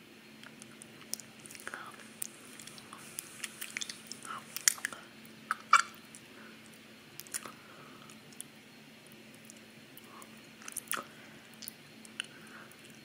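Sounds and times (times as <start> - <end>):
chewing crackers: 0.4 - 8.5, 9.3 - 13.0.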